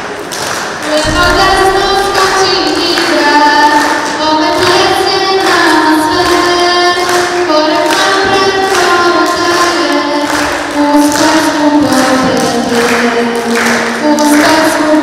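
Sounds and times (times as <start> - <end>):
children singing: 0.9 - 15.0.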